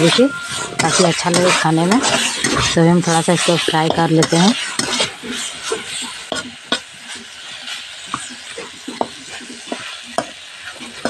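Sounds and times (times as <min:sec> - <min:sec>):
metal spatula scraping a pan: 0:00.0 - 0:11.0
vegetables sizzling in a pan: 0:00.0 - 0:11.0.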